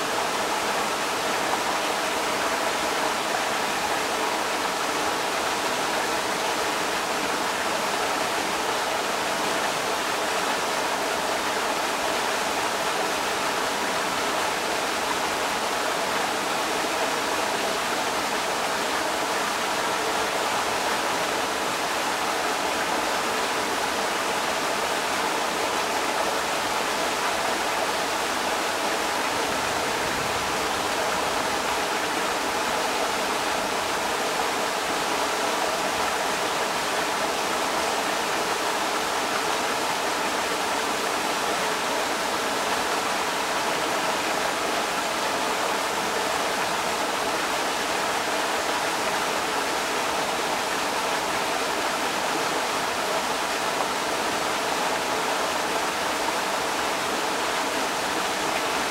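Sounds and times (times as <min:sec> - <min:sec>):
creek water rushing over rocks: 0:00.0 - 0:58.9.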